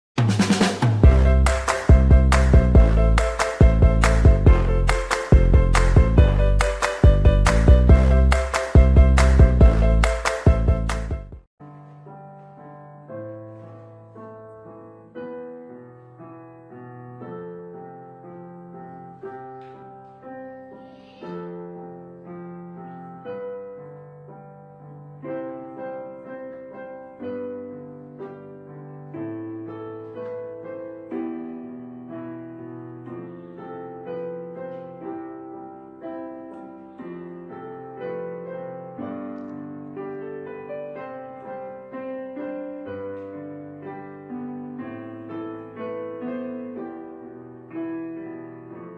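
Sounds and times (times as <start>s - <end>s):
slow gentle piano chords: 1.0s - 48.9s.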